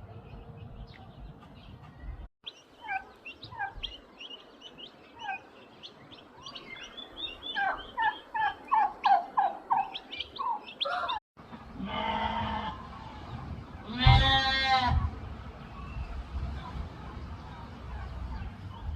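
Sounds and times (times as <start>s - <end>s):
birds chirping calls: 0.0s - 18.9s.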